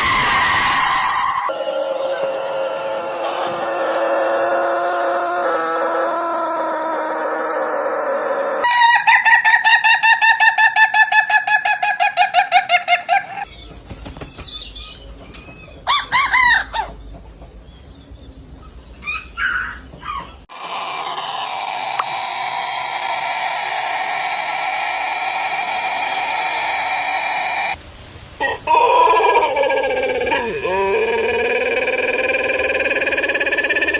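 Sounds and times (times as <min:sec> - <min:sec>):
rooster calling: 0:00.0 - 0:13.5, 0:15.7 - 0:17.0, 0:19.0 - 0:27.8, 0:28.4 - 0:33.9.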